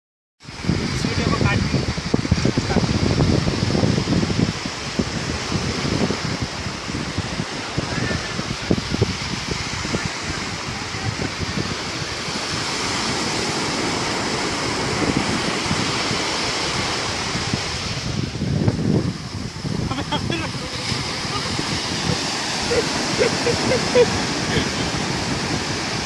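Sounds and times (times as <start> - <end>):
sea surf washing on shore: 0.4 - 26.0
wind buffeting microphone: 0.4 - 26.0.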